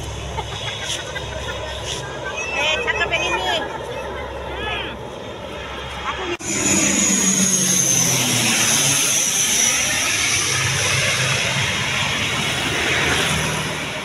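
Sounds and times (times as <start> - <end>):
high turbine whine: 0.0 - 14.0
low drone of propellers: 0.0 - 14.0
turboprop plane passing overhead: 0.0 - 14.0.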